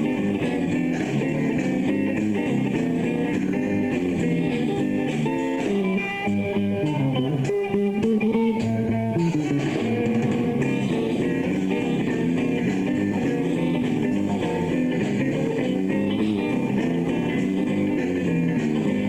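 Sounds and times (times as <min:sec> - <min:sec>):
bass guitar: 0:00.0 - 0:19.0
electric guitar lead: 0:00.0 - 0:19.0
live rock band playing: 0:00.0 - 0:19.0.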